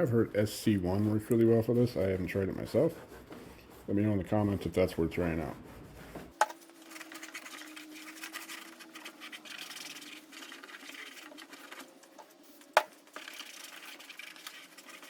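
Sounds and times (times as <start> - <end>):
rag wiping over plastic: 0.2 - 15.0.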